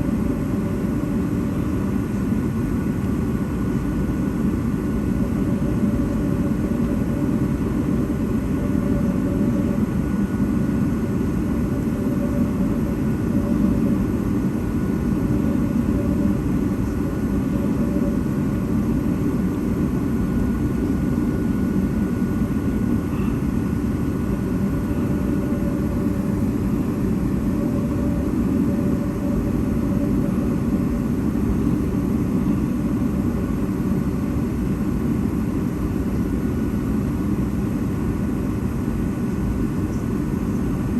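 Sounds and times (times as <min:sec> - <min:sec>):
faint whining tones: 0:00.0 - 0:35.0
aircraft engine and airflow drone: 0:00.0 - 0:40.9.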